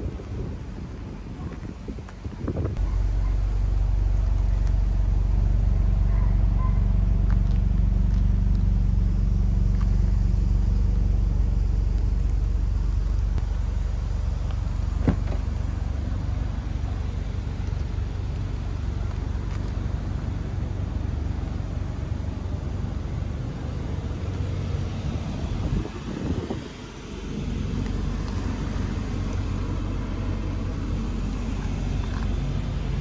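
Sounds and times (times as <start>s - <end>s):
car engine starting and idling: 2.5s - 33.0s.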